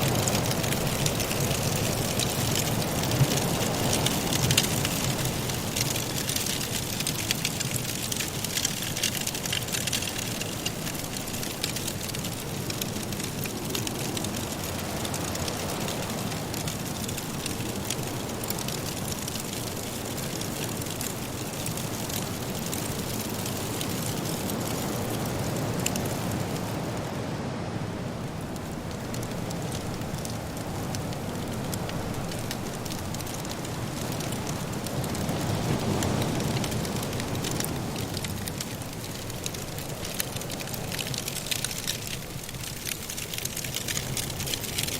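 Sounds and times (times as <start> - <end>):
firewood crackling and popping: 0.0 - 27.2, 27.9 - 44.9.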